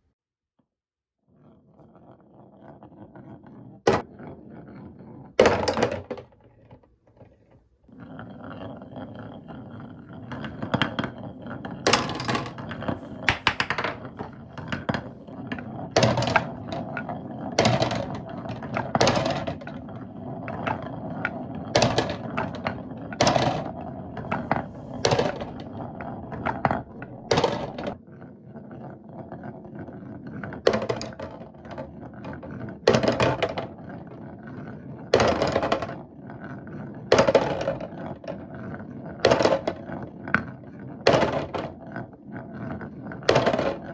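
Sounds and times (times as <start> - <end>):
marble clacking on track: 8.0 - 43.9
marbles rolling on track: 8.0 - 43.9.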